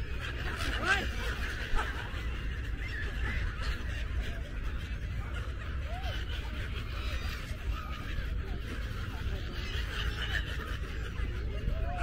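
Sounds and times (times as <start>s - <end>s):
flock of gulls calling: 0.0s - 12.0s.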